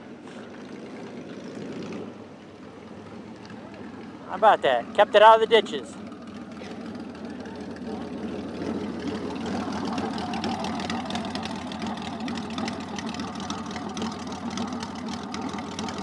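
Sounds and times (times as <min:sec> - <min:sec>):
motorcycle engine idling: 0:00.0 - 0:04.4, 0:05.8 - 0:16.0.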